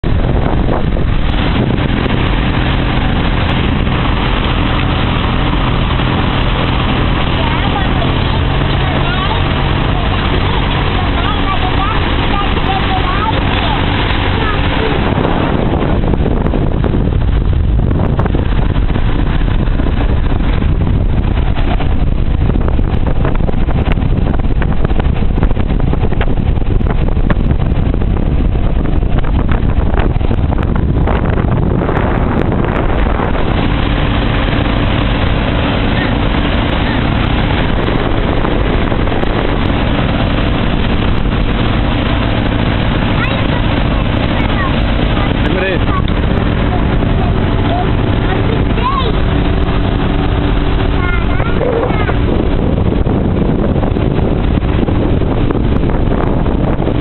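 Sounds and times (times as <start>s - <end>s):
dense rush of noise: 0.0s - 57.0s
motorboat engine running: 0.0s - 57.0s
wind buffeting microphone: 0.0s - 57.0s.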